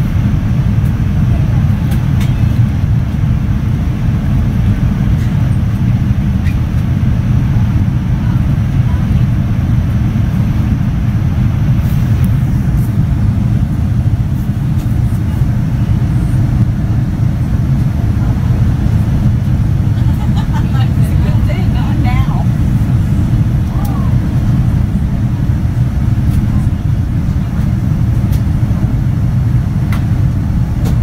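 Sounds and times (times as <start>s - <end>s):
airliner cabin engine roar: 0.0s - 31.0s.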